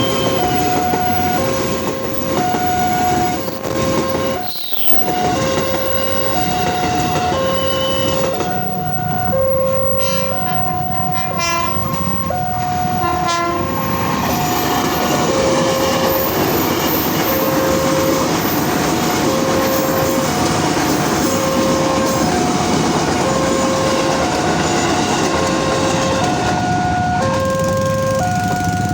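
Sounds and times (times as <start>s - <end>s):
level crossing alarm chime: 0.0s - 28.9s
train rumbling and clattering: 0.0s - 28.9s.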